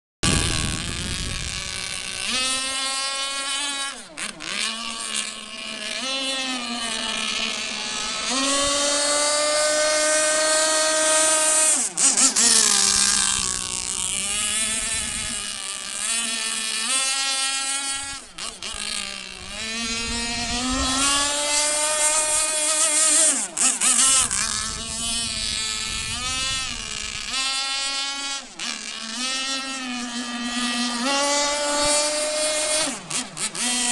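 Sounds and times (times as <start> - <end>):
model boat engine buzzing: 0.2 - 33.9.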